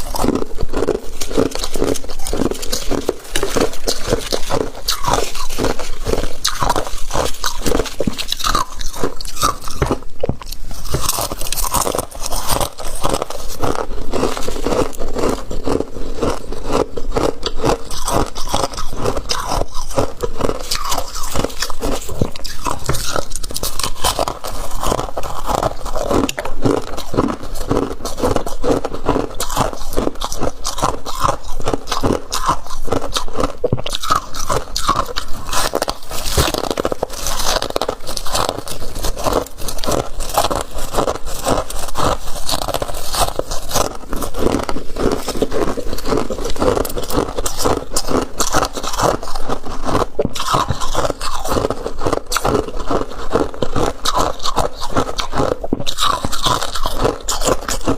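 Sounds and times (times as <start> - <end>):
chewing crunchy frost: 0.0 - 57.9.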